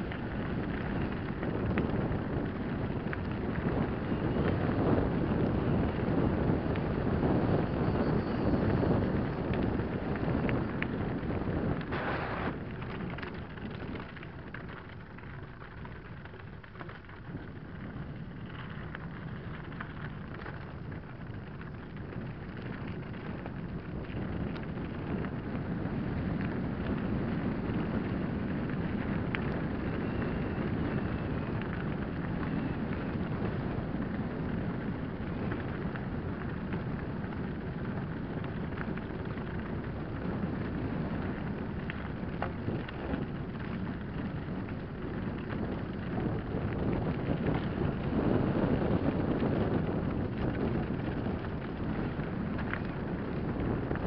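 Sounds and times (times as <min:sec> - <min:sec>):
bike tyres crunching over stones: 0:00.0 - 0:54.0
wind rushing over microphone: 0:00.0 - 0:54.0.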